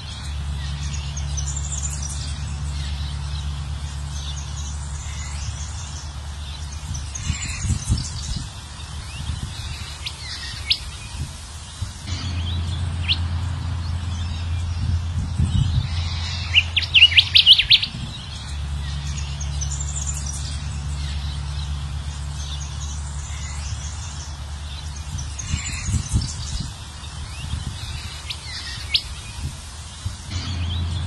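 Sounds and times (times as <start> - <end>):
bird song chirps and twittering: 0.0 - 31.0
low steady hum: 0.0 - 31.0.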